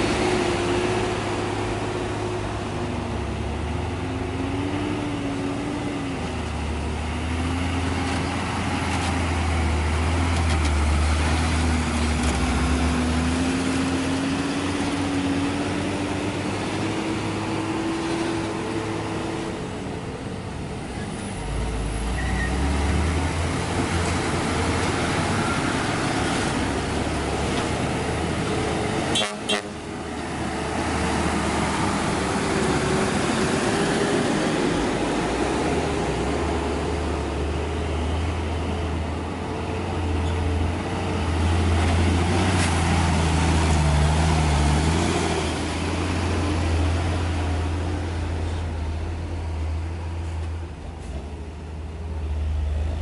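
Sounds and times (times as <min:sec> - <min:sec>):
dump trucks driving past: 0:00.0 - 0:53.0.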